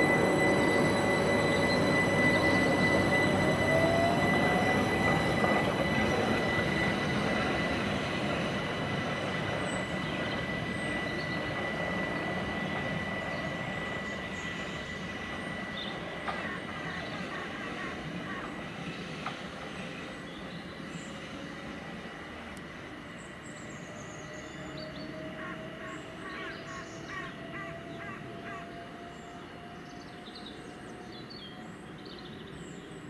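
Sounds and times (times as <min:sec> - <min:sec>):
electric train running on track: 0:00.0 - 0:33.0.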